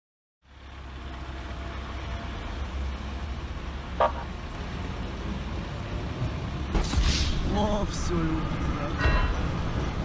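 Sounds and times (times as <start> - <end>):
rumble of passing cars: 0.4 - 10.0.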